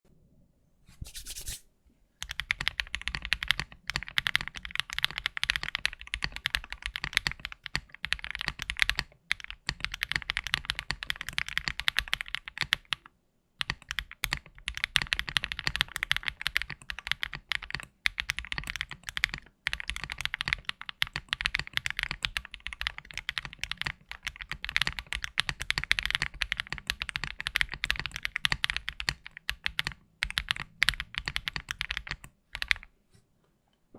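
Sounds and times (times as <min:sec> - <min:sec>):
mechanical keyboard typing: 0:02.2 - 0:13.0, 0:13.6 - 0:32.9.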